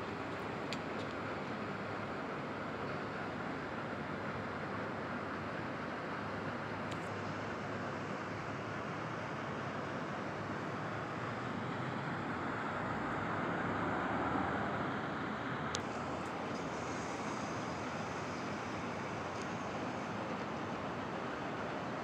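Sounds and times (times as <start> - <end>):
street traffic noise: 0.0 - 22.0.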